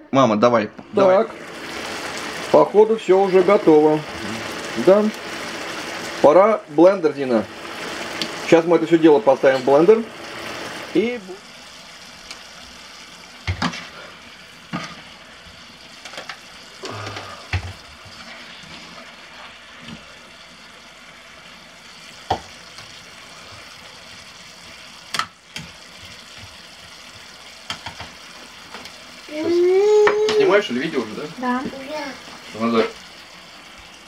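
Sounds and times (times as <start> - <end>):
squash sizzling in frying pan: 0.8 - 34.0.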